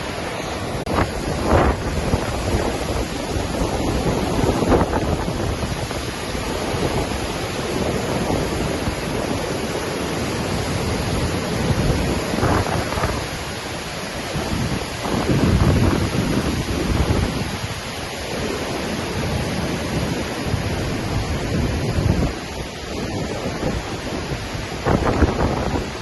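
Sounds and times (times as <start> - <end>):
waterfall roaring: 0.0 - 26.0
wind buffeting microphone: 0.0 - 26.0.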